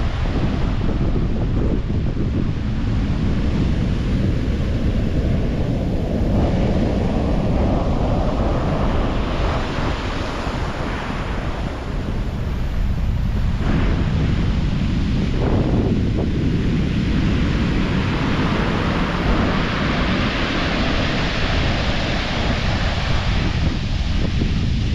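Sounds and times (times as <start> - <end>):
surf breaking on beach: 0.0 - 24.9
wind buffeting microphone: 0.0 - 24.9.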